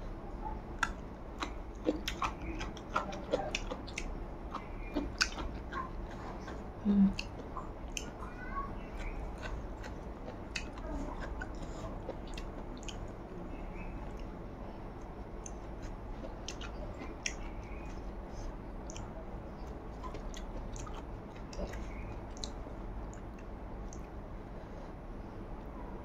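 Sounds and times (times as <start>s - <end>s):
wet chewing with mouth clicks: 0.7s - 24.2s.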